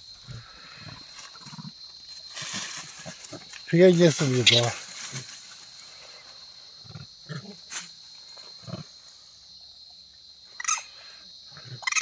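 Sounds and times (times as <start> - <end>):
high drone of insects: 0.0 - 12.0.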